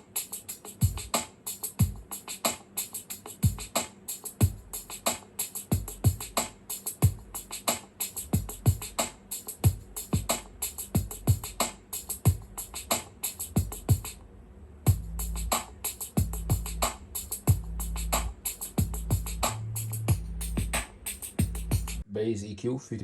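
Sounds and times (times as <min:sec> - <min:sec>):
drum machine beat: 0:00.0 - 0:14.2, 0:14.9 - 0:22.0
fast hi-hat ticks: 0:00.0 - 0:14.2, 0:14.9 - 0:22.0.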